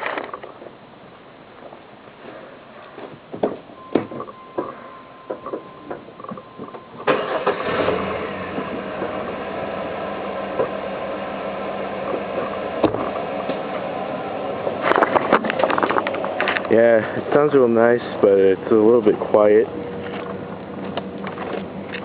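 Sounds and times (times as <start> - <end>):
truck engine starting and idling: 3.8 - 22.0.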